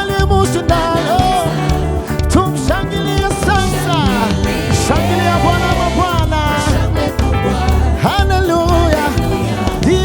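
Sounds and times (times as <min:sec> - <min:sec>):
gospel worship band: 0:00.0 - 0:10.0
people singing: 0:00.0 - 0:10.0.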